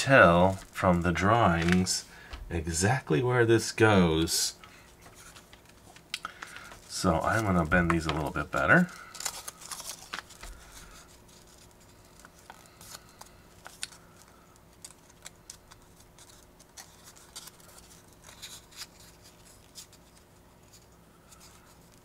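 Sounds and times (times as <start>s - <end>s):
stiff paper clicking and rustling: 0.4s - 2.0s, 4.6s - 22.0s.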